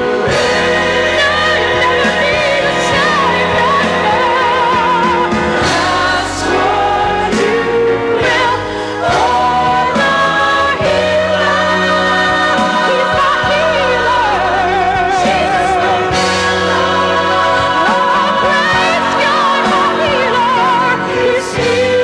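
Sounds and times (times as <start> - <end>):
band accompaniment: 0.0 - 22.0
choir singing with vibrato: 0.0 - 22.0.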